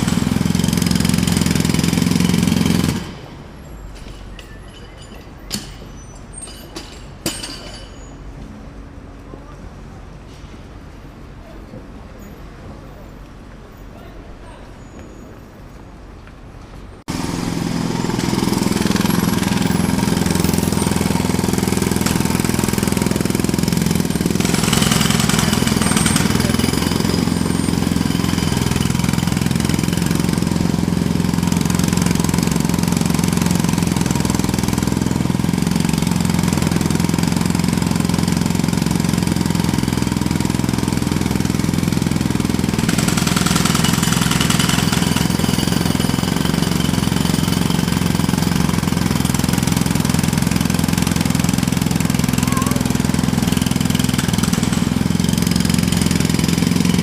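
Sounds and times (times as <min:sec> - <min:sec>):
jackhammer hammering: 0:00.0 - 0:08.1, 0:17.1 - 0:57.0.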